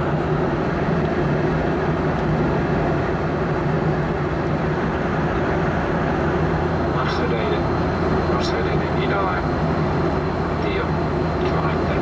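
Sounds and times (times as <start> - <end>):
airliner cabin airflow rush: 0.0 - 12.0
low hum: 0.0 - 12.0.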